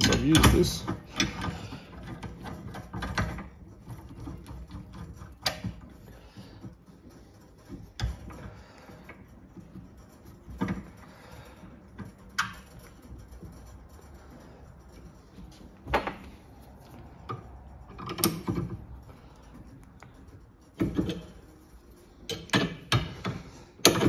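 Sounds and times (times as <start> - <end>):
scraping and rustling: 0.0 - 24.0.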